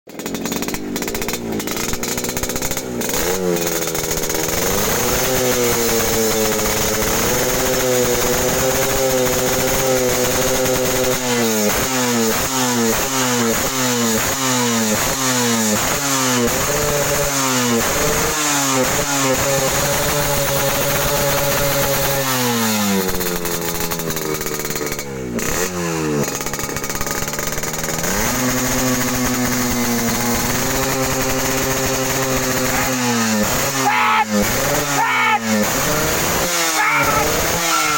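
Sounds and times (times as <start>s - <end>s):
two-stroke motorcycle engine revving: 0.1s - 37.9s.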